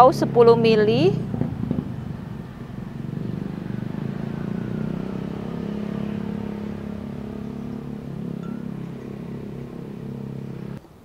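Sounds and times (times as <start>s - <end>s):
motor engine humming: 0.0s - 10.8s.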